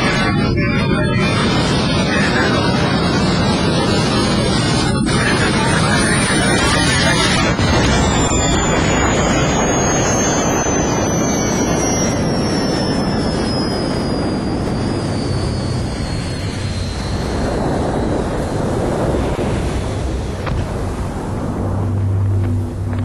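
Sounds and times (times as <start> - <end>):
jet engine roaring with high whine: 0.0 - 23.0.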